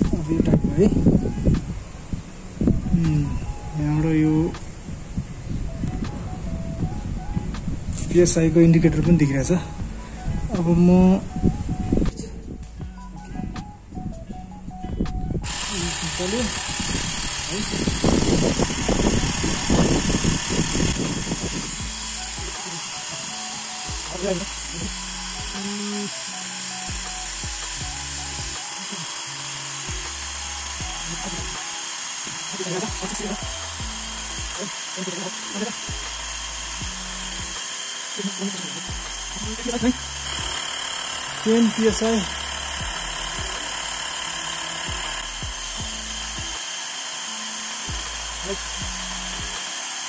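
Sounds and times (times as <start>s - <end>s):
electric air compressor running: 0.0s - 50.0s.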